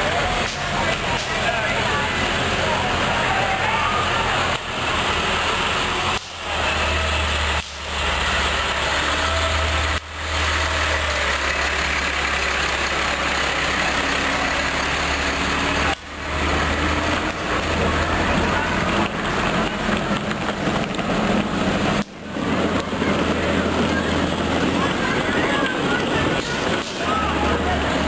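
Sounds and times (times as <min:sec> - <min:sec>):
constant rushing noise: 0:00.0 - 0:28.0
truck engine running low: 0:00.0 - 0:28.0.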